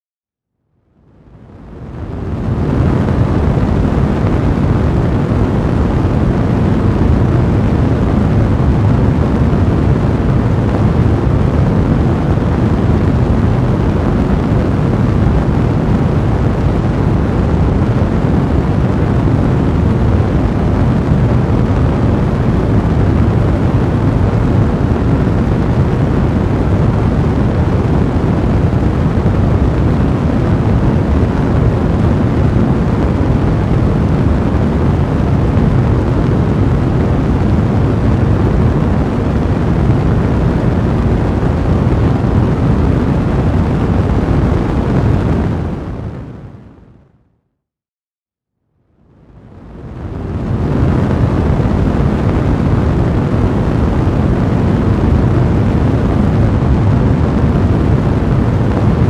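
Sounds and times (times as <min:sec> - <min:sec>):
roar of flames: 0:01.2 - 0:46.6, 0:49.5 - 0:59.0.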